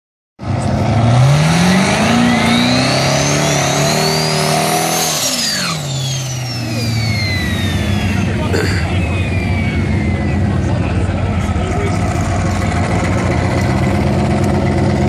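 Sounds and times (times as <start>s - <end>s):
car engine revving hard: 0.4s - 15.0s
high turbo whine: 0.4s - 15.0s.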